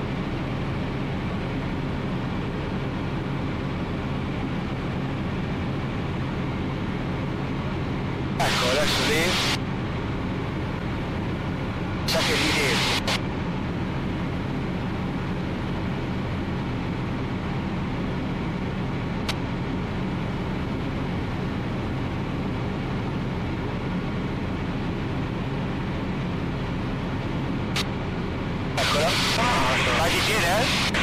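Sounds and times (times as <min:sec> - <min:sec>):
aircraft engine and propeller: 0:00.0 - 0:31.0.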